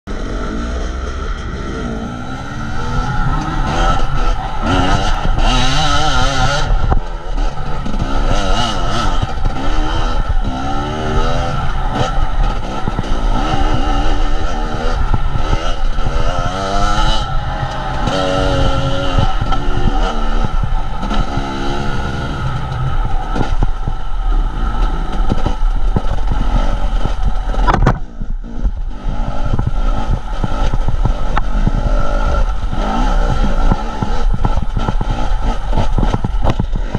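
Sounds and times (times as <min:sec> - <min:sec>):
engine revving: 0:00.1 - 0:36.9.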